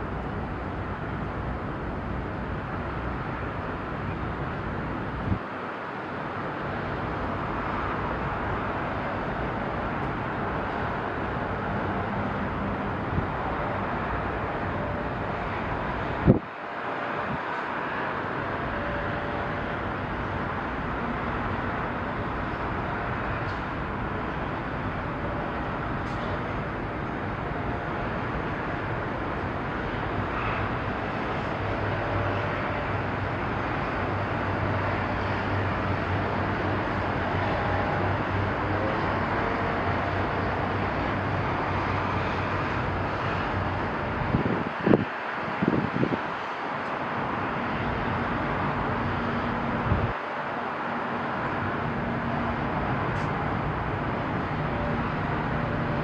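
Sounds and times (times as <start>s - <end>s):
low engine hum: 0.0s - 56.0s
rushing background noise: 0.0s - 56.0s.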